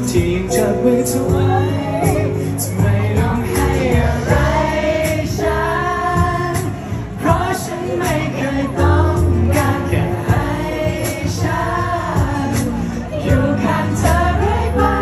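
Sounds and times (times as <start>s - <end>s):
backing music: 0.0s - 15.0s
man singing into a microphone: 0.0s - 15.0s.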